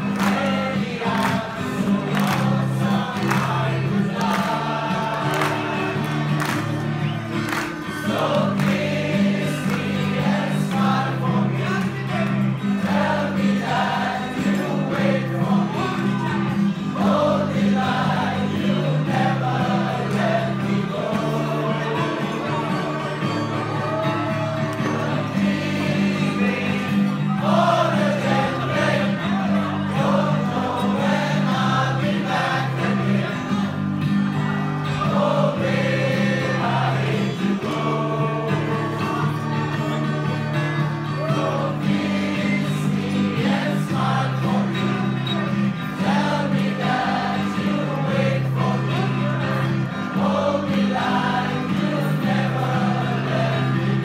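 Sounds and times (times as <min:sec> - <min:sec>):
group singing in chorus: 0:00.0 - 0:54.0.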